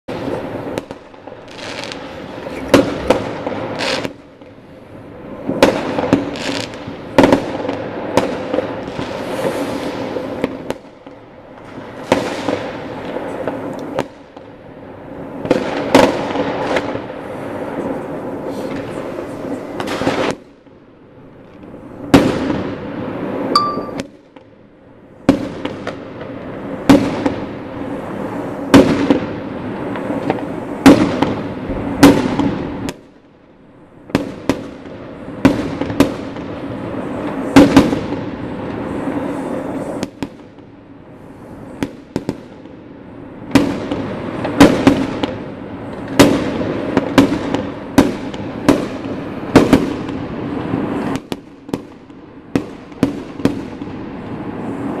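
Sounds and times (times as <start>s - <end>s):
fireworks bangs echoing: 0.1s - 14.6s, 15.2s - 20.8s, 21.6s - 24.4s, 25.2s - 33.1s, 34.0s - 40.8s, 41.7s - 55.0s.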